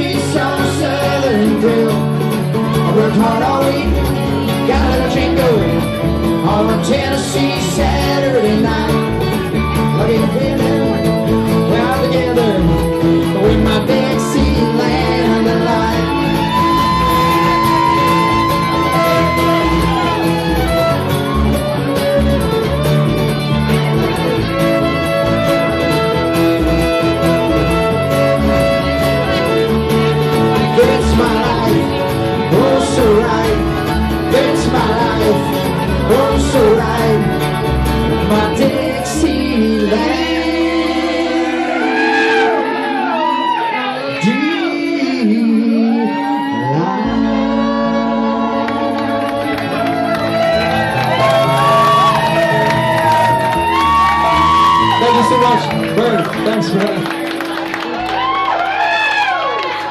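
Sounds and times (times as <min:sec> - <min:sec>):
fiddle: 0:00.0 - 0:58.4
strummed acoustic guitars: 0:00.0 - 0:58.4.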